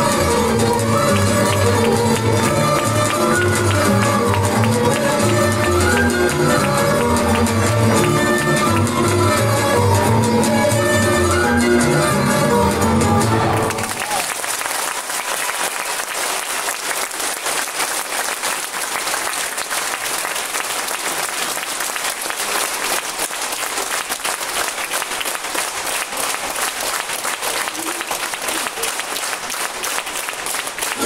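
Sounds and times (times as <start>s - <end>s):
audience applauding: 0.0s - 10.2s, 13.2s - 31.0s.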